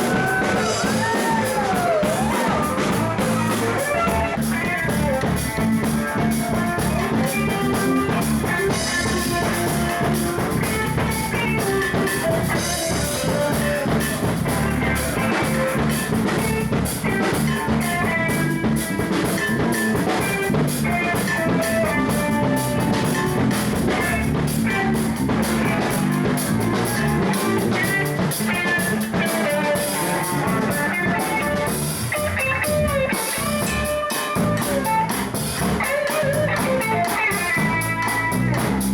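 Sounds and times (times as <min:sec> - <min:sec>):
bass guitar: 0:00.0 - 0:38.9
drum kit rock beat: 0:00.0 - 0:38.9
electric guitar: 0:00.0 - 0:38.9.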